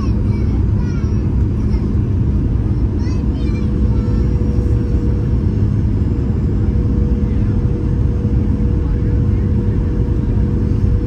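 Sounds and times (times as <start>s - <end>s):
aircraft engines and airflow rushing: 0.0s - 11.0s
higher hum: 0.0s - 11.0s
low steady hum: 0.0s - 11.0s.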